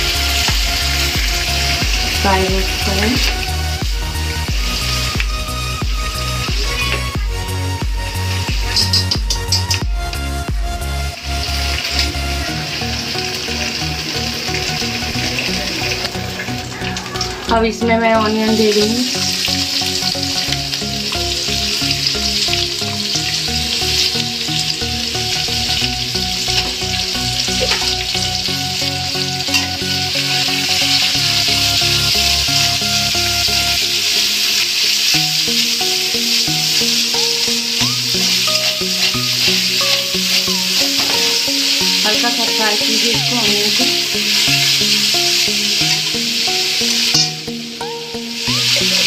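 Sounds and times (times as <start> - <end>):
onions sizzling in hot oil: 0.0 - 49.0.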